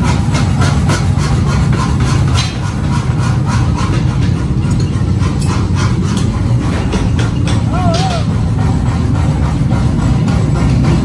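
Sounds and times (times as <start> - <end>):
power hammer pounding steel: 0.0 - 11.0.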